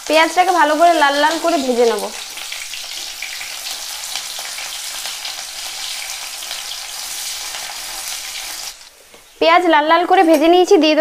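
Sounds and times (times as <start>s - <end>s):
onions sizzling in hot oil: 0.0s - 10.7s.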